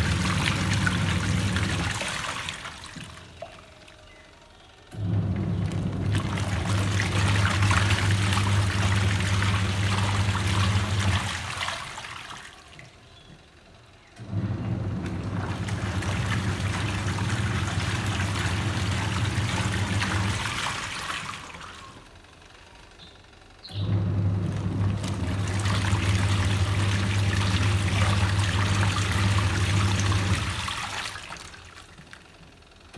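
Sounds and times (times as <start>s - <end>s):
water sloshing and churning: 0.0s - 4.3s, 5.0s - 13.4s, 14.2s - 22.2s, 23.9s - 32.5s
washing machine motor hum: 0.0s - 32.9s.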